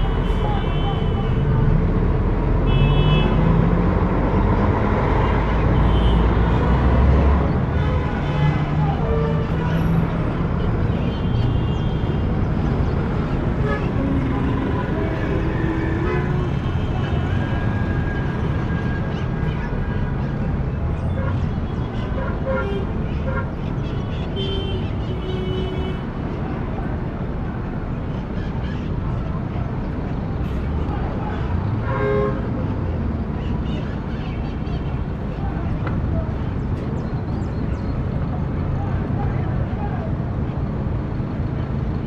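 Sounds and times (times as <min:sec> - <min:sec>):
street traffic rumble: 0:00.0 - 0:42.0.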